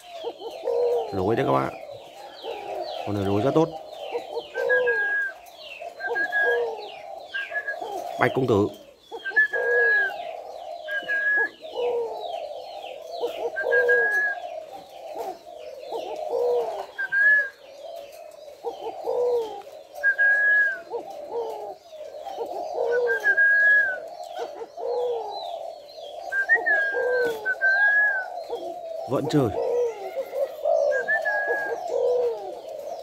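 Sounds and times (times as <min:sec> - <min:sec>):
birds whistling and chirping: 0:00.0 - 0:33.0
dove cooing: 0:00.0 - 0:33.0.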